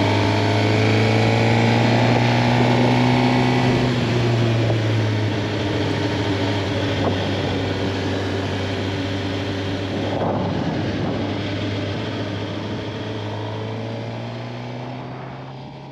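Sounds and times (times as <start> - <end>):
motorcycle engine running steadily: 0.0 - 15.9.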